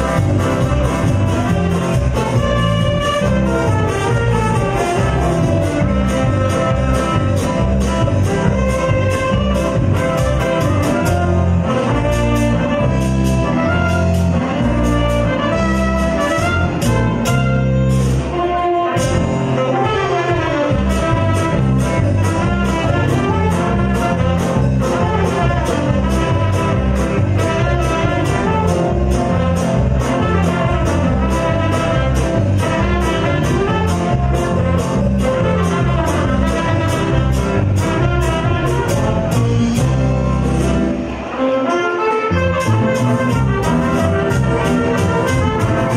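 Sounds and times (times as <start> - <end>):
live band playing: 0.0 - 45.9
saxophones holding melody notes: 0.0 - 45.9.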